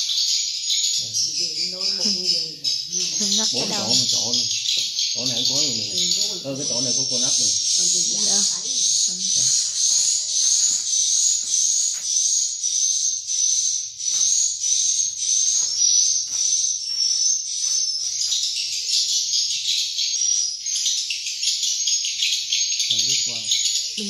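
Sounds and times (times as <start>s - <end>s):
swiftlets twittering: 0.0s - 24.0s.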